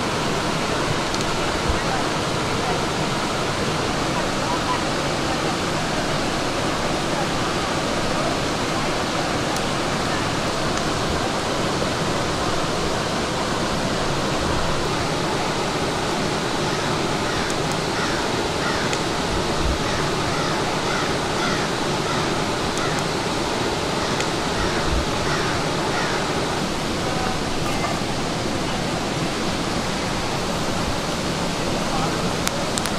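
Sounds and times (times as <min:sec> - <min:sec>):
river rushing: 0:00.0 - 0:32.9.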